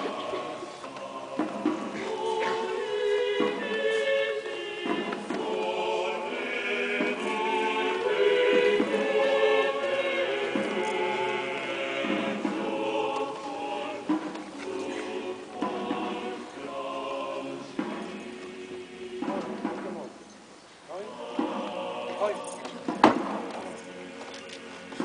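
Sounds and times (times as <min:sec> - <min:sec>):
choir singing a hymn: 0:00.0 - 0:20.2, 0:20.9 - 0:25.0.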